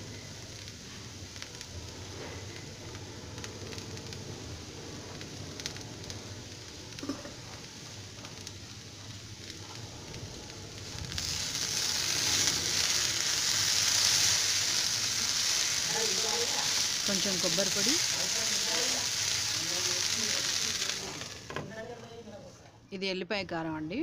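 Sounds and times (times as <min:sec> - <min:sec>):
okra sizzling in oil: 0:00.0 - 0:22.2.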